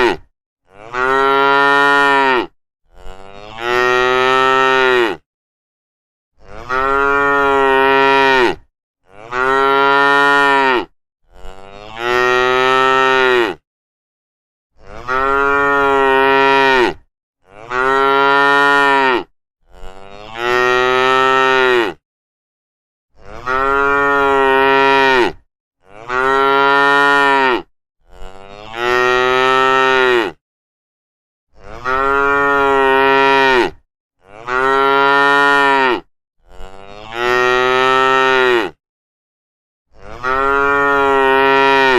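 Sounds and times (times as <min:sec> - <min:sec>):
cattle mooing: 0:00.0 - 0:05.2, 0:06.4 - 0:13.6, 0:14.8 - 0:22.0, 0:23.2 - 0:30.4, 0:31.6 - 0:38.8, 0:40.0 - 0:41.9.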